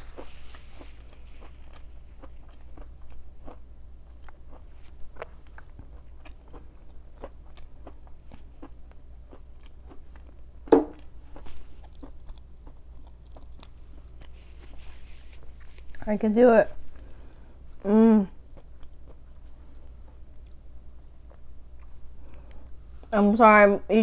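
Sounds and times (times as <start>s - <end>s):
chewing crunchy fried food: 0.0s - 23.1s.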